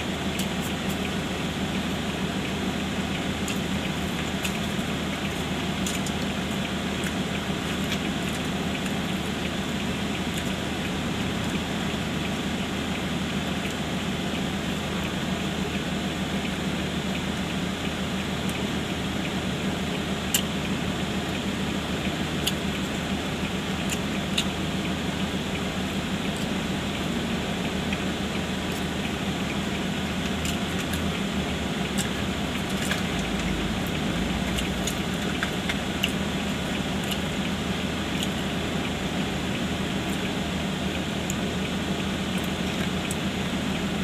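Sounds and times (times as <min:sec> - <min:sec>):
car cabin hum: 0:00.0 - 0:44.0.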